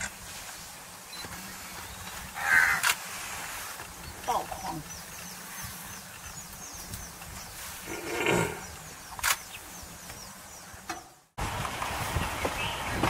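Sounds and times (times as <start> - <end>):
windy rumble: 0.0 - 13.0.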